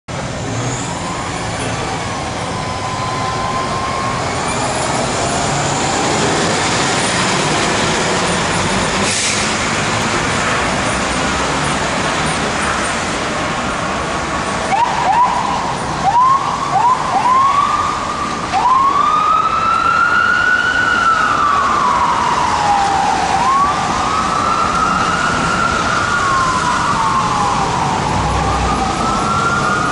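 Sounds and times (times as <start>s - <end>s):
road and engine noise: 0.0s - 29.9s
fire engine siren: 0.4s - 12.0s, 13.5s - 29.9s.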